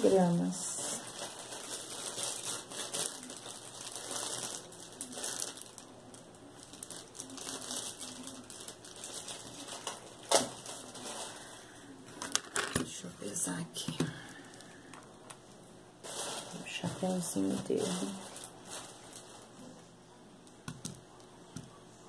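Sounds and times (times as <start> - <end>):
plastic bag crinkling: 0.0 - 19.9.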